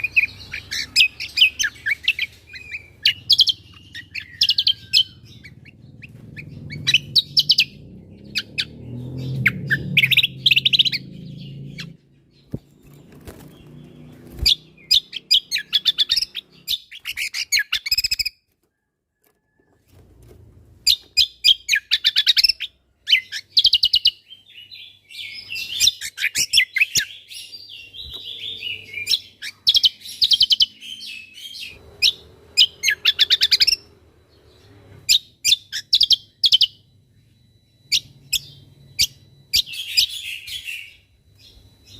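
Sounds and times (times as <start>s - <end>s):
songbird chattering and trilling: 0.0s - 18.3s, 20.8s - 41.9s.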